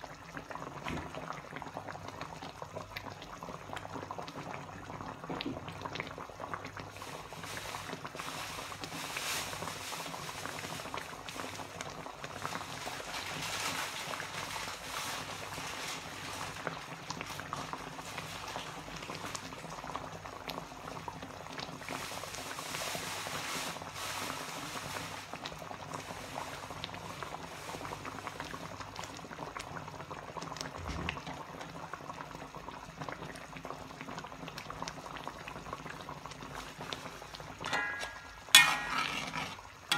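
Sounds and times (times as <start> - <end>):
gravy bubbling and popping: 0.0 - 22.8, 24.6 - 39.9.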